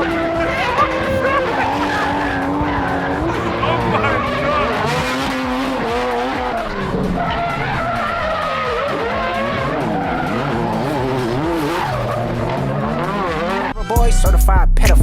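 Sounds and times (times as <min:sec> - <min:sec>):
car engine running: 0:00.0 - 0:13.7
car tyres squealing: 0:00.0 - 0:13.9.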